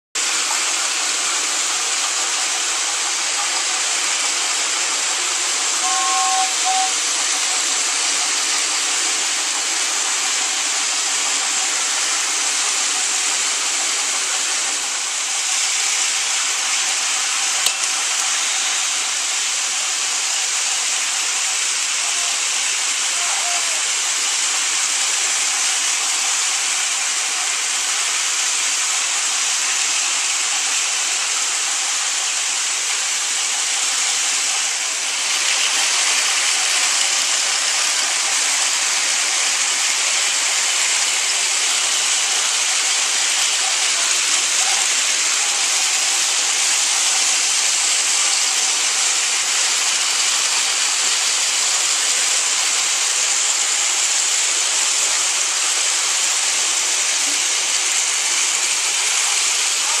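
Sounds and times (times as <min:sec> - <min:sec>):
toy trains whirring: 0:00.2 - 1:00.0.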